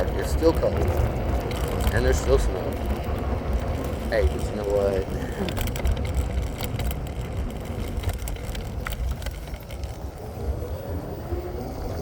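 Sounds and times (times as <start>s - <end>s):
scooter road noise: 0.0s - 12.0s
wind buffeting microphone: 0.0s - 12.0s.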